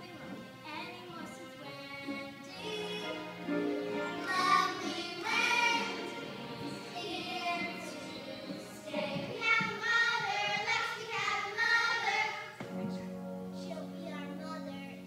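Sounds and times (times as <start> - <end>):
children singing with accompaniment: 0.0 - 15.0.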